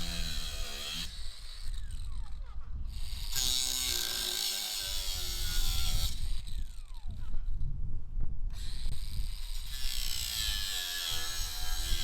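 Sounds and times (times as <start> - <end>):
power tool cutting through nail: 0.0 - 2.3, 3.0 - 7.2, 8.5 - 12.0
power tool whining down: 0.0 - 2.4, 3.0 - 7.3, 8.5 - 12.0.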